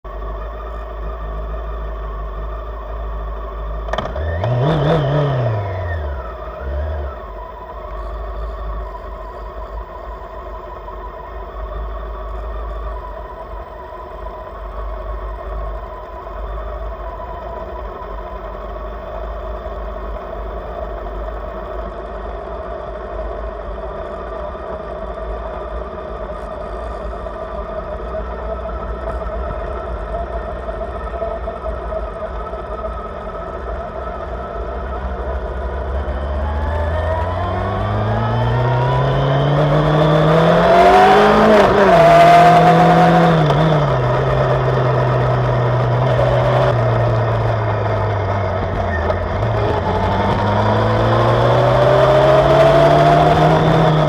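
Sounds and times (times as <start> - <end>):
low wind rumble: 0.0 - 54.0
motorcycle engine revving: 0.1 - 23.8, 25.5 - 54.0.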